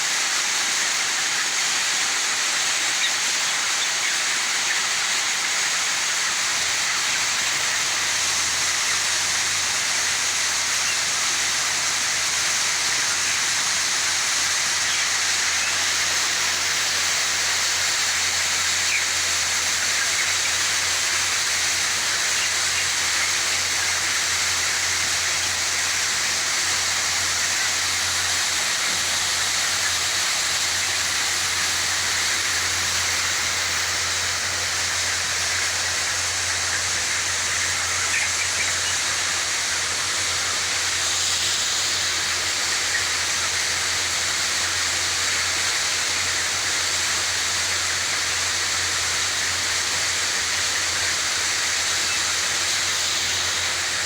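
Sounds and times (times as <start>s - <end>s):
rushing hiss: 0.0s - 54.0s.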